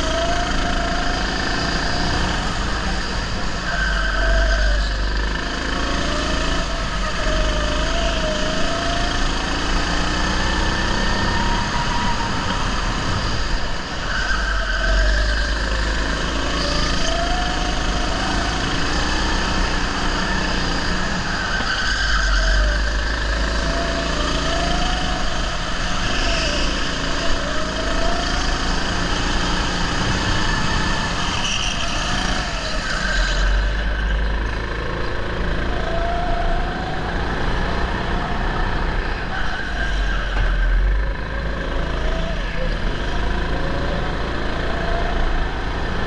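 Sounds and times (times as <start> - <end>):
go-kart engine revving: 0.0 - 46.0.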